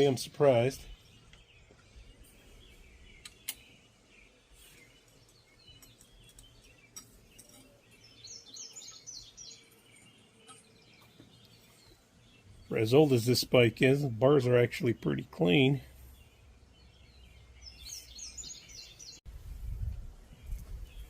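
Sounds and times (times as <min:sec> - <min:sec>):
bird chirping: 0:00.0 - 0:19.2, 0:20.2 - 0:21.0.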